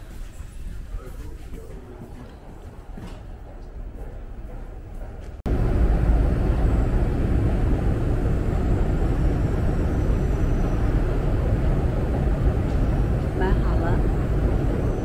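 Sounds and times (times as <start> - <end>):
subway station rumble and hiss: 0.0 - 15.0.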